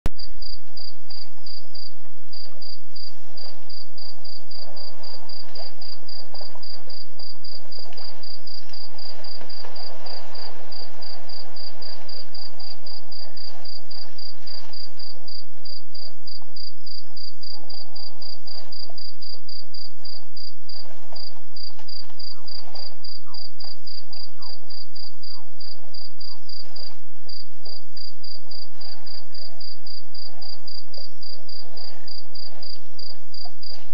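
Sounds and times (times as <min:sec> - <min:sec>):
steady low hum: 0:00.1 - 0:33.9
crickets chirping: 0:00.2 - 0:33.9
faint rustling: 0:00.7 - 0:33.9.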